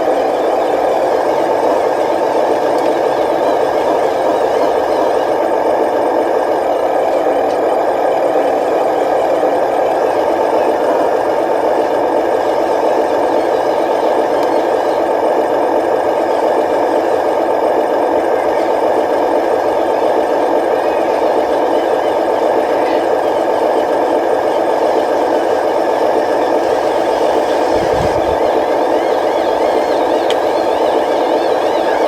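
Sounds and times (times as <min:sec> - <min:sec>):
model machine engine drone: 0:00.0 - 0:32.0.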